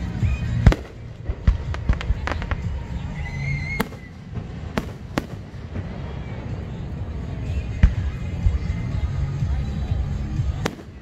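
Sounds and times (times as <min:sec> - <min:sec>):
fireworks exploding: 0:00.0 - 0:08.7, 0:10.4 - 0:11.0
steady low rumble: 0:00.0 - 0:11.0.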